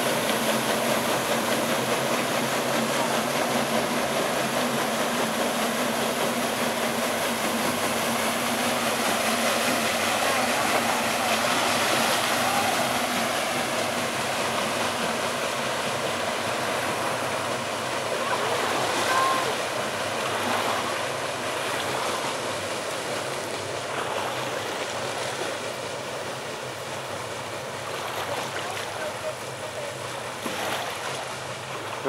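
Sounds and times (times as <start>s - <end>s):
paddle wheels churning water: 0.0s - 32.0s.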